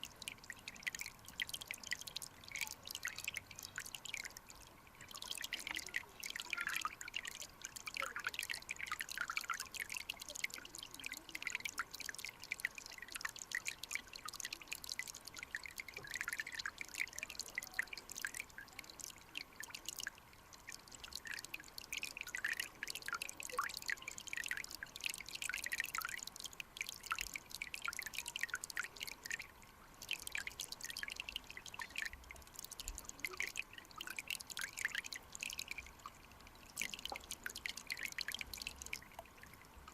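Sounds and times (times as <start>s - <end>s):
stream water running over rocks: 0.0s - 39.9s
water drips and splashes: 0.0s - 39.9s.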